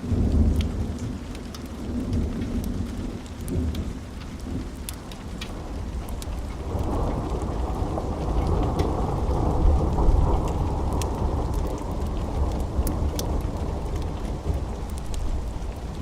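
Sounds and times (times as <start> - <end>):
heavy rain: 0.0 - 16.0
thunder rumbling: 0.0 - 16.0
wood fire crackling and popping: 0.2 - 16.0.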